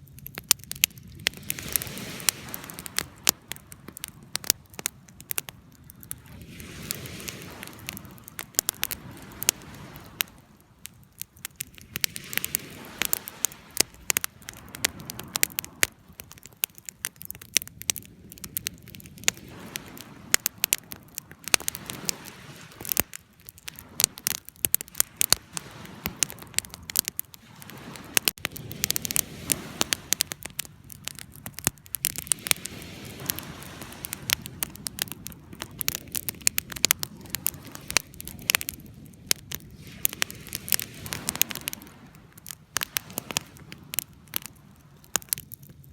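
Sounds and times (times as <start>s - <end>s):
soft hiss of flame: 0.0s - 45.9s
wood fire crackling: 0.0s - 45.9s.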